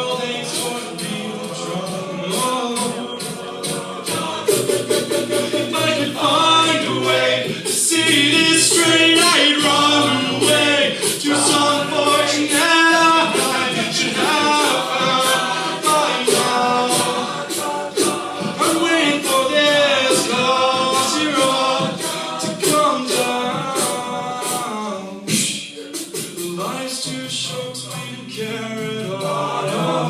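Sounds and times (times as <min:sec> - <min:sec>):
beatboxed vocal percussion: 0:00.0 - 0:30.0
men's a cappella singing: 0:00.0 - 0:30.0.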